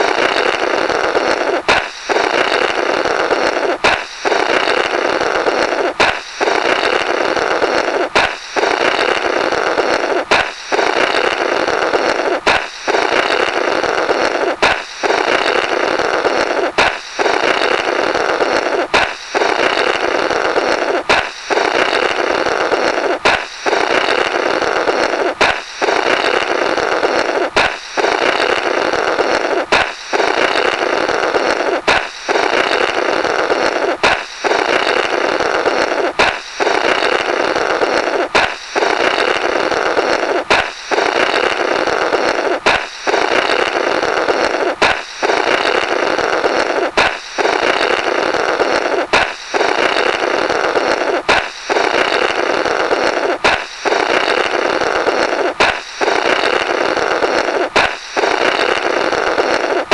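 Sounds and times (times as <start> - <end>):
balloon popping: 0.0 - 59.9
blowing through rubber: 0.0 - 59.9.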